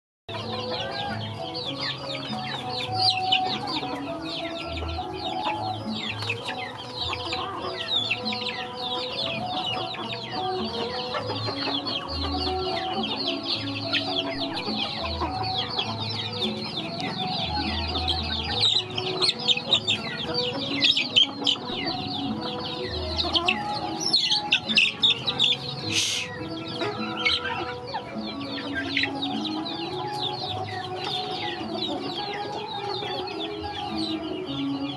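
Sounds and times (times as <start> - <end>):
harsh chicken call: 0.3 - 34.2
chicks peeping and clucking: 0.3 - 34.9
soft background music: 0.3 - 34.9.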